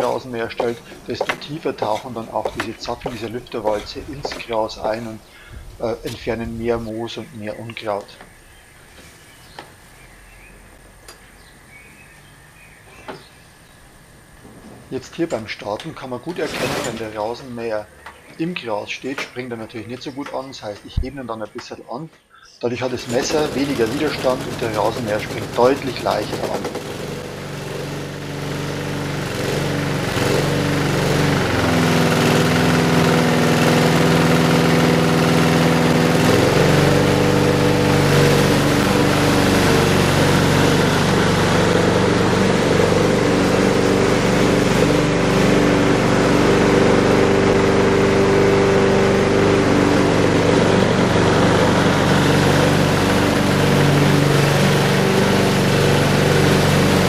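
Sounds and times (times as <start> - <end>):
lawn mower engine running: 0.0 - 21.1, 22.8 - 57.0.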